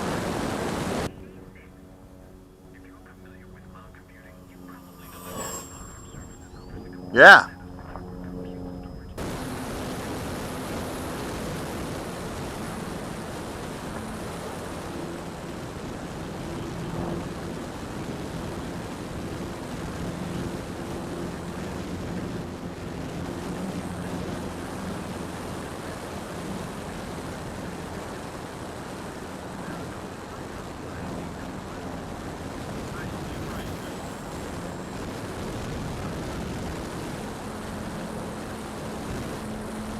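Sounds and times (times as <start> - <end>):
faint low engine drone: 0.0 - 39.9.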